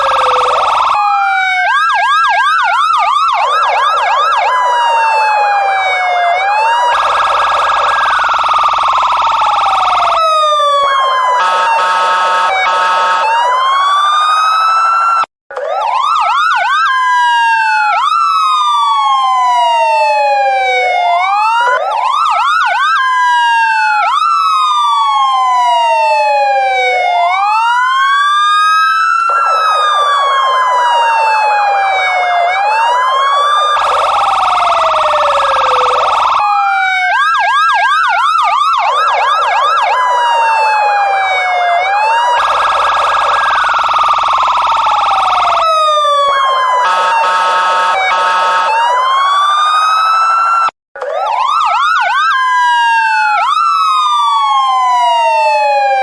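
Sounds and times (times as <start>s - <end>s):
police siren wailing: 0.0s - 56.0s.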